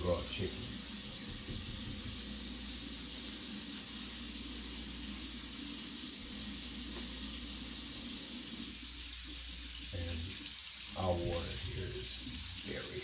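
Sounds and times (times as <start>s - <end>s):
faucet running into sink: 0.0s - 13.0s.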